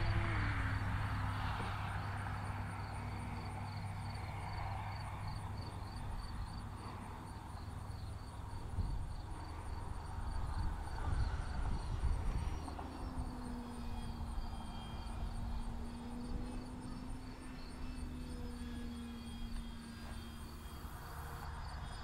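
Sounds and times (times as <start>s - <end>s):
insects chirping: 0.0s - 22.0s
model airplane motor drone: 0.0s - 22.0s.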